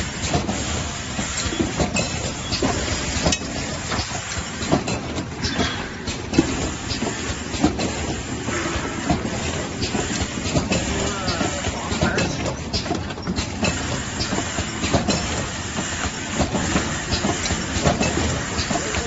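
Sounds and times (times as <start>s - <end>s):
packing machine clatter: 0.0s - 19.0s.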